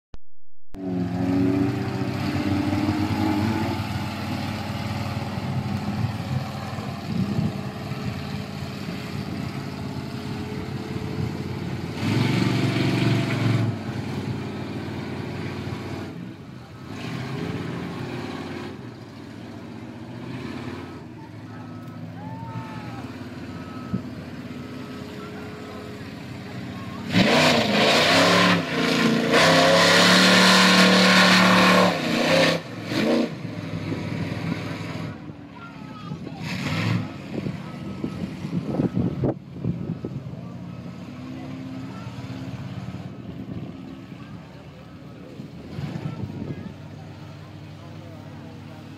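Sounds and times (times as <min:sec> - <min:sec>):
tires churning through mud: 0:00.8 - 0:48.9
truck engine revving: 0:00.8 - 0:48.9.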